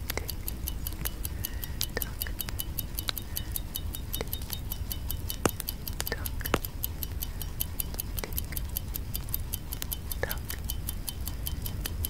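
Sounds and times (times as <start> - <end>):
clock ticking: 0.0 - 12.0
sharp clicks: 0.0 - 12.0.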